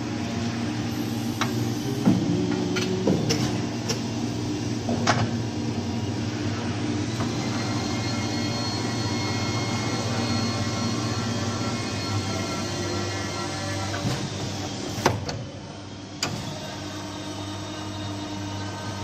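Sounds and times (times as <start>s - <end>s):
pipe bending machine humming: 0.0s - 19.0s.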